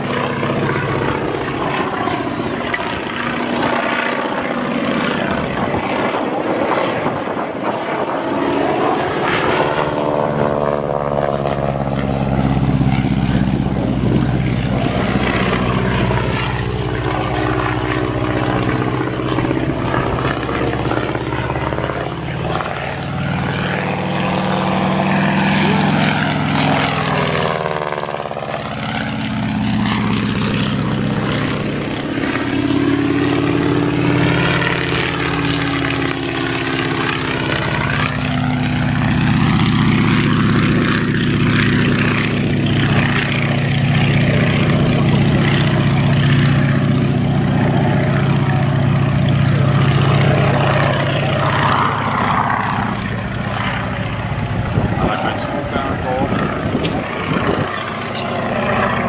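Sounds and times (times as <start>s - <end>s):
biplane engine and propeller droning: 0.0s - 59.0s.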